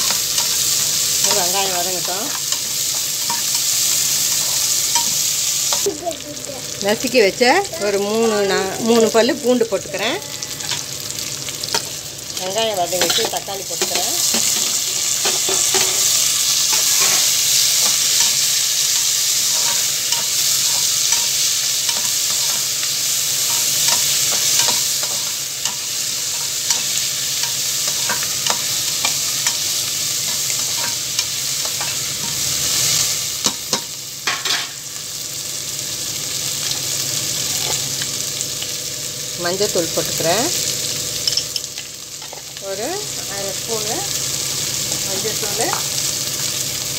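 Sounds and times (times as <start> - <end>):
vegetables sizzling in hot oil: 0.0 - 46.9.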